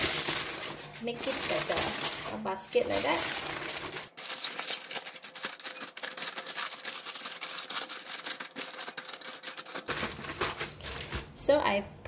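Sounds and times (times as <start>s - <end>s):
aluminium foil crinkling: 0.0s - 11.4s.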